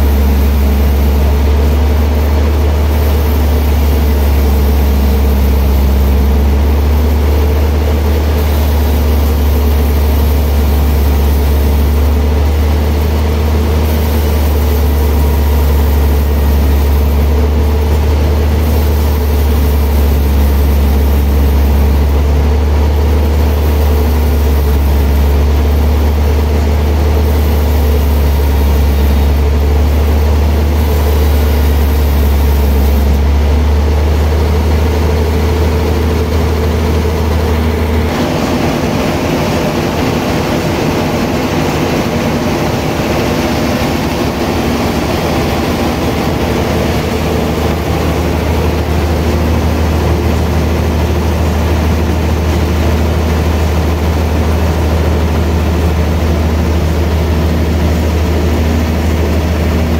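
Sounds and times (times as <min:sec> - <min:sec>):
band sawmill humming: 0:00.0 - 0:59.9.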